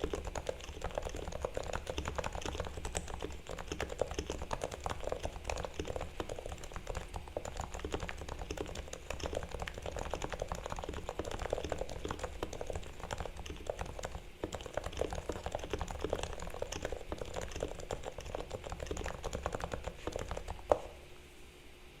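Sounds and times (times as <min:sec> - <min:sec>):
muted keyboard typing: 0:00.0 - 0:21.0.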